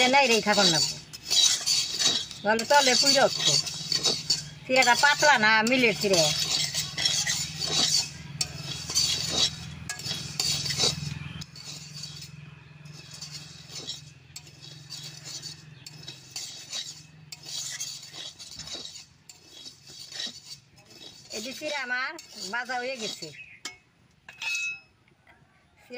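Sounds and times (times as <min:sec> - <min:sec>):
spatula scraping metal pan: 0:00.0 - 0:24.9.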